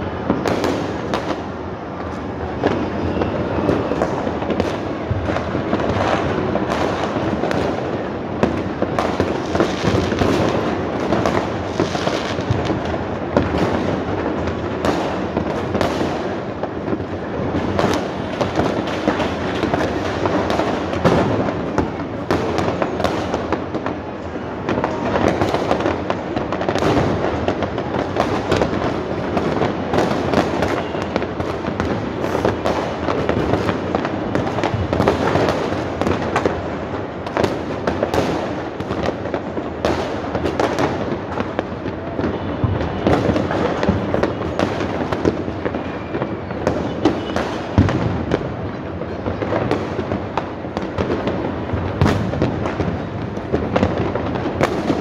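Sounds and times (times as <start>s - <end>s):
fireworks banging and crackling: 0.0s - 55.0s.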